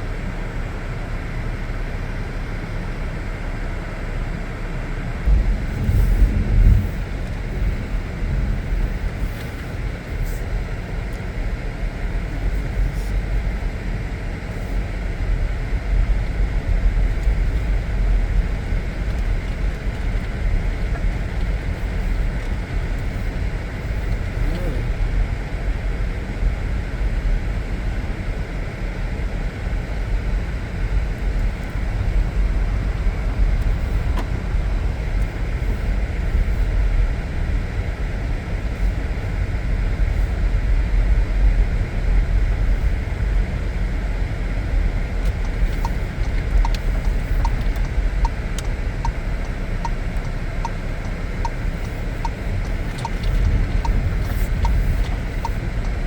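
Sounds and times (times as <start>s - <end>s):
car engine and road noise: 0.0s - 56.0s
turn signal ticking: 5.2s - 56.0s.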